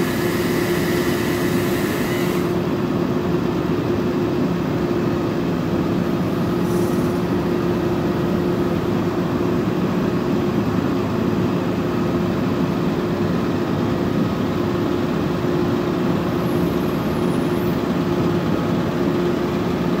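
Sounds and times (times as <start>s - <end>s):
truck engine running steadily: 0.0s - 20.0s.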